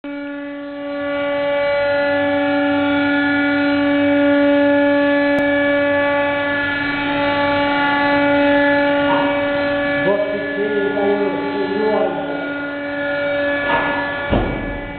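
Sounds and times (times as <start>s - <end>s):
loading arm drive humming: 0.1s - 14.9s.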